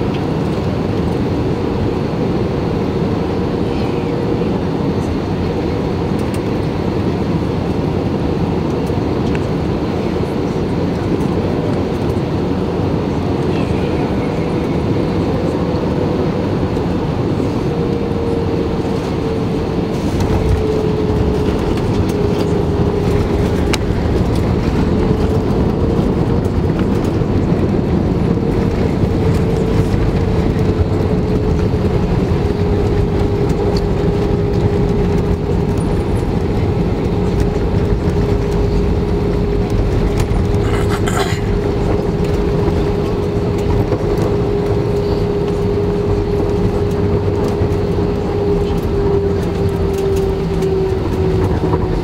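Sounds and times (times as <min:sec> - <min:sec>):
engines and wheels rumbling: 0:00.0 - 0:52.0.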